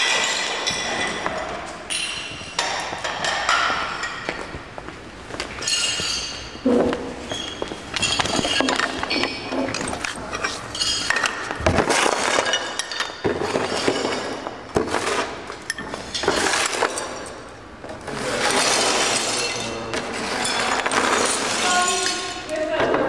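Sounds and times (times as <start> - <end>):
hard objects clinking and knocking: 0.0 - 4.6, 5.6 - 23.0.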